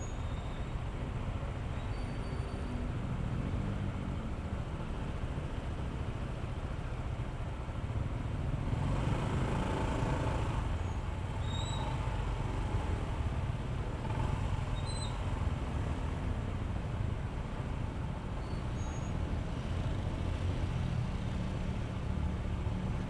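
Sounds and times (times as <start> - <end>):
road noise: 0.0 - 23.0.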